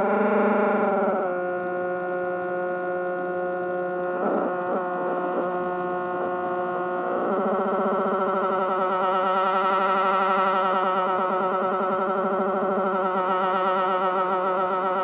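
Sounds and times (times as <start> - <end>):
distorted amplifier buzzing drone: 0.0 - 15.0.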